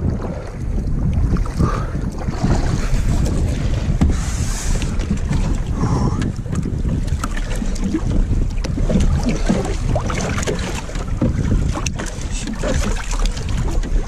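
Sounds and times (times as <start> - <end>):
water splashing against hull: 0.0 - 14.0
wind buffeting microphone: 0.0 - 14.0.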